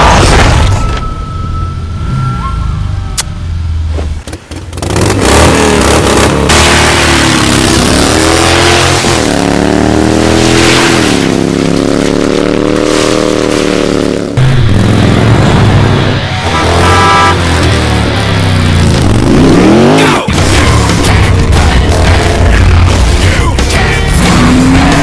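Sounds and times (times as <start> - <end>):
motorcycle engine revving: 3.4 - 25.0.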